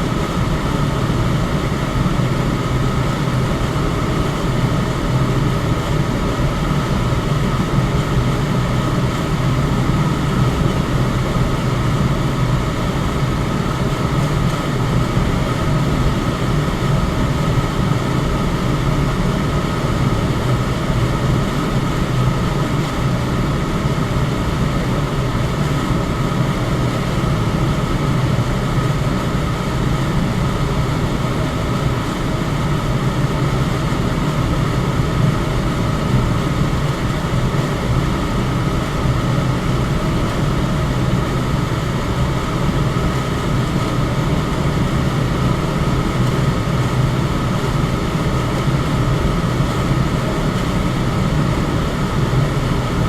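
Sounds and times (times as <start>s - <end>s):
electric fan running: 0.0s - 53.0s
faint steady whine: 0.0s - 53.0s.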